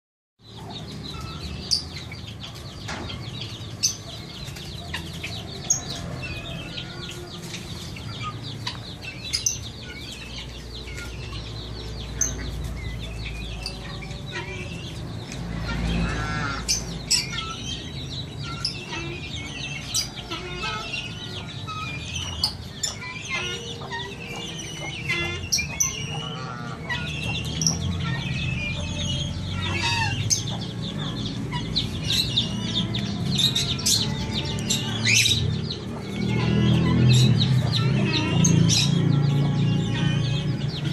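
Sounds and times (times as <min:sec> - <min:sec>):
chickens clucking: 0:00.4 - 0:40.9.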